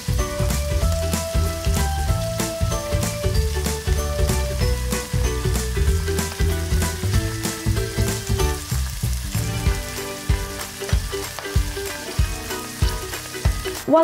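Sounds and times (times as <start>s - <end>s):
background music: 0.0s - 14.0s
meat sizzling in a frying pan: 0.0s - 14.0s.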